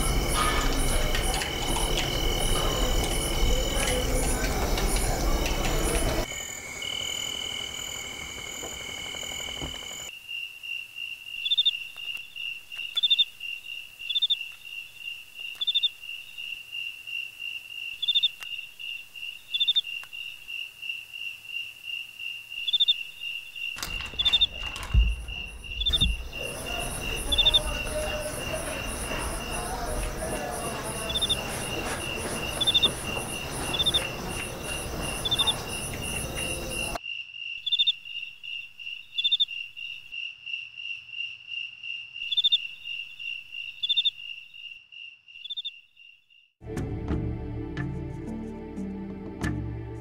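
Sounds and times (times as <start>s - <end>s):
crickets trilling: 0.0s - 46.6s.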